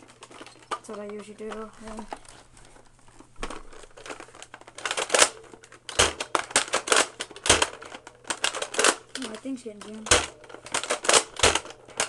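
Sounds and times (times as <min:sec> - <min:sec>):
plastic toy gun handling rattles: 0:00.0 - 0:12.0.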